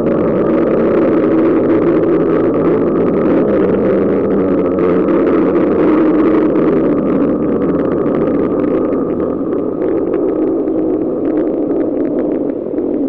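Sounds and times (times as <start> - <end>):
monster growl with crackling rattle: 0.0 - 13.0.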